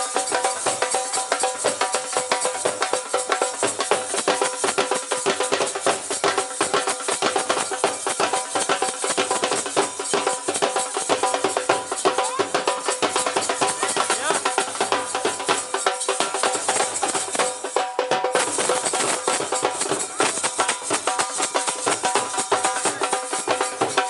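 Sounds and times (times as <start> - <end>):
barrel drum beaten fast: 0.0 - 24.0.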